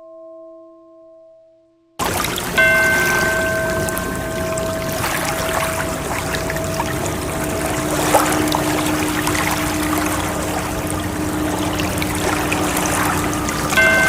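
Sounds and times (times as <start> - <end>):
bell-like ringing tones: 2.0 - 14.0
moving water: 2.0 - 14.0.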